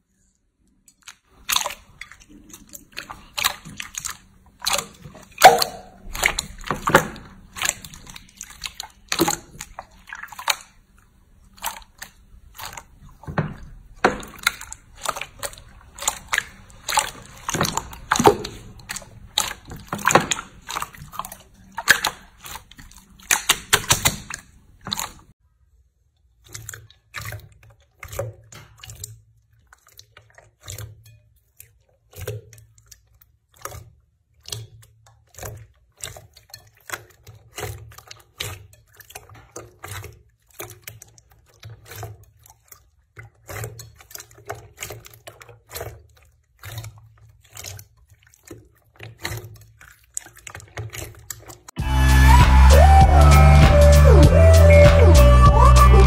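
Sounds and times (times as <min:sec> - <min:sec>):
slime squelching: 0:00.0 - 0:56.0.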